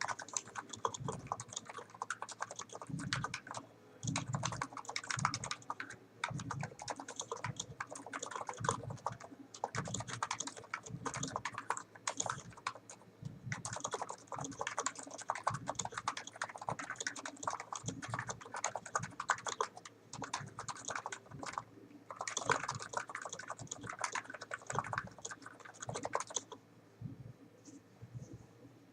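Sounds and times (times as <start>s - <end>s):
keyboard typing: 0.0s - 26.6s.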